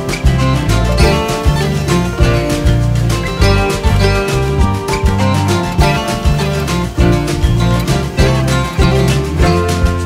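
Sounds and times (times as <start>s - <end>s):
acoustic guitar music with beat: 0.0s - 10.0s.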